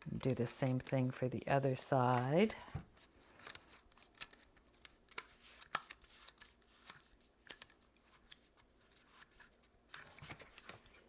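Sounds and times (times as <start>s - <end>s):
handling of cardstock: 0.0s - 11.0s.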